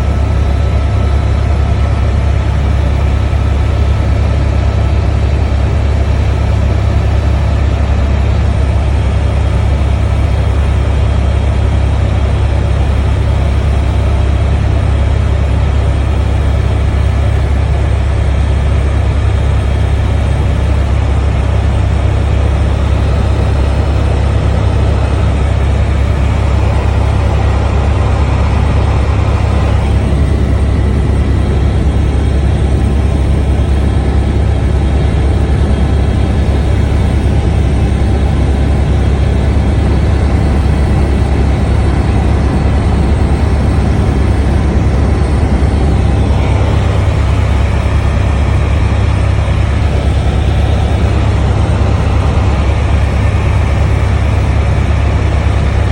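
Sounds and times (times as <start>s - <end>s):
helicopter rotor and engine: 0.0s - 55.9s.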